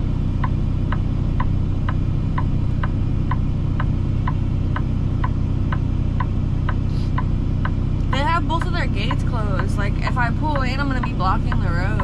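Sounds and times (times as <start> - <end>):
diesel engine humming: 0.0 - 12.0
turn signal flasher ticking: 0.0 - 12.0.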